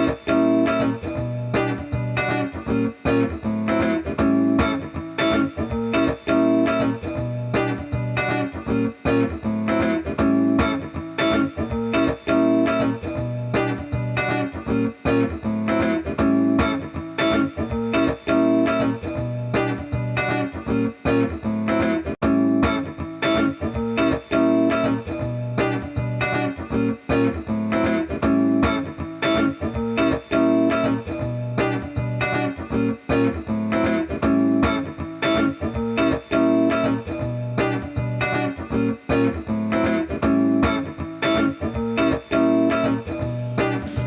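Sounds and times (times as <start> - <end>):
plucked guitar music: 0.0 - 44.0.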